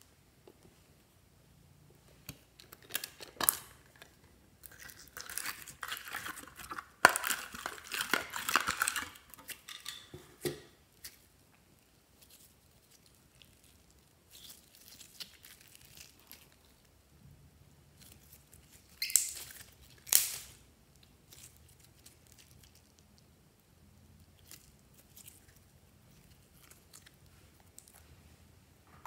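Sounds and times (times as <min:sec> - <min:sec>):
slime crackling and squishing: 0:02.1 - 0:09.7, 0:10.9 - 0:17.1, 0:17.9 - 0:28.2.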